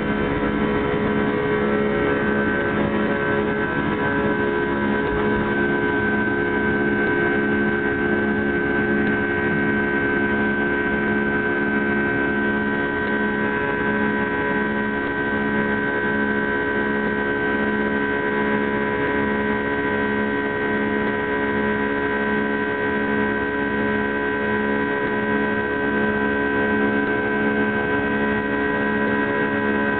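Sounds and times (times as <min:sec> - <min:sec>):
jet engine drone in cabin: 0:00.0 - 0:29.9.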